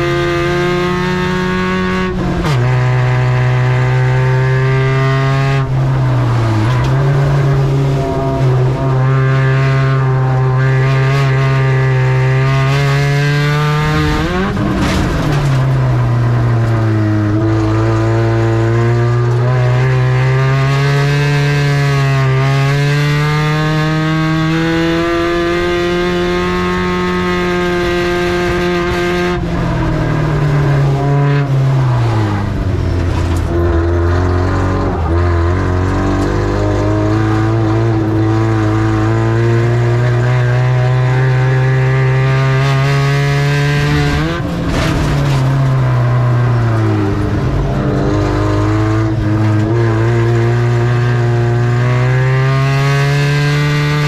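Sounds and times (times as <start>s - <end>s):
race truck engine revving: 0.0s - 54.0s.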